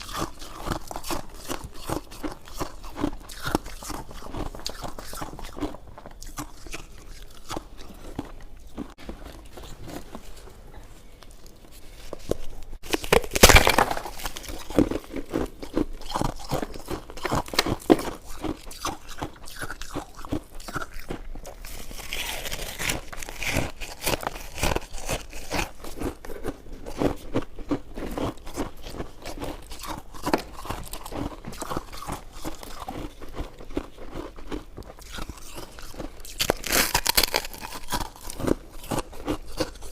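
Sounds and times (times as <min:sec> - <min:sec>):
chewing and biting soft food: 0:00.0 - 0:39.9.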